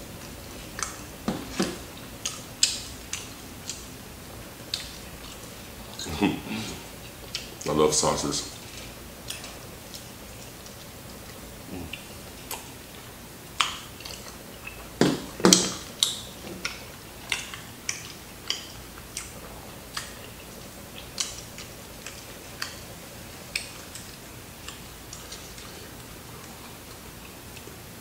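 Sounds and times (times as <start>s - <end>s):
chewing crispy fried chicken: 0.2s - 28.0s.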